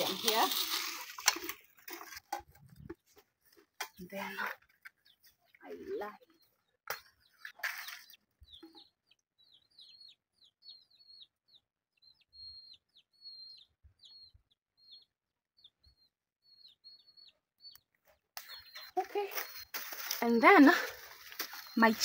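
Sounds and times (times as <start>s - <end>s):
bird chirping: 2.8s - 22.0s.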